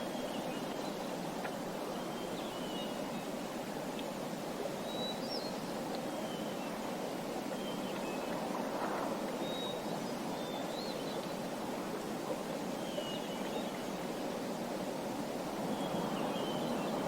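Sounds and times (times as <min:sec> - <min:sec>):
stream flowing: 0:00.0 - 0:17.0.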